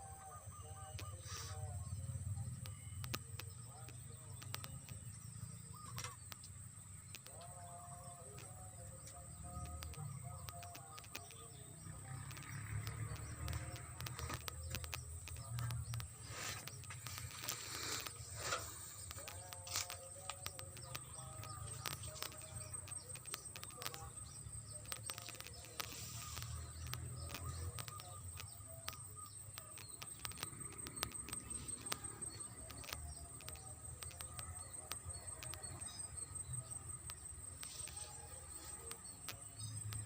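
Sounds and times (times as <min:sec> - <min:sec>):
faint bird calls: 0:00.0 - 0:40.0
scattered clicks: 0:00.1 - 0:40.0.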